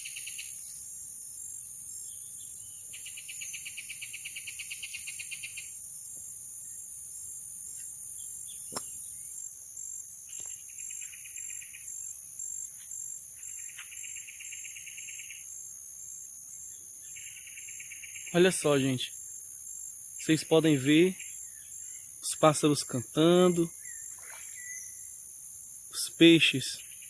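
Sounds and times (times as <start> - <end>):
pulsed insect trill: 0.0 - 27.0.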